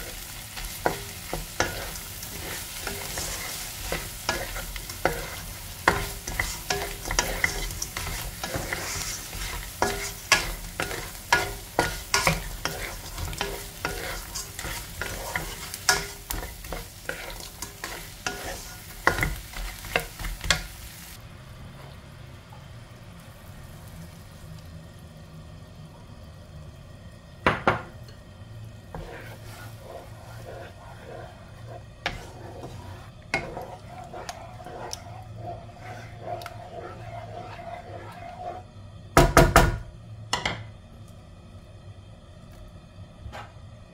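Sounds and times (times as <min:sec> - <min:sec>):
shrimp sizzling in a pan: 0:00.0 - 0:21.3, 0:23.0 - 0:26.3, 0:27.0 - 0:39.7.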